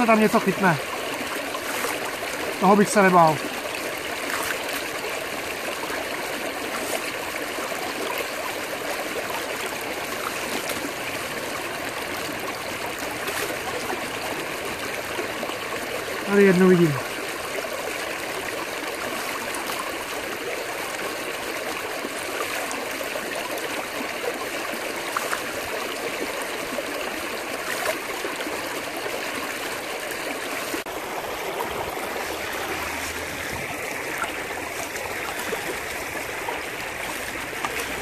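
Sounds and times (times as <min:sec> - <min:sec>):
water rushing over gravel: 0:00.0 - 0:38.0.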